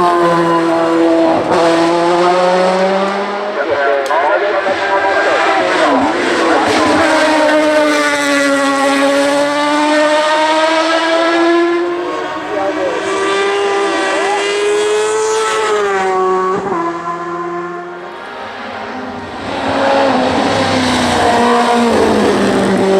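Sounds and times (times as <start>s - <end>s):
race car engine at high revs: 0.0s - 22.9s.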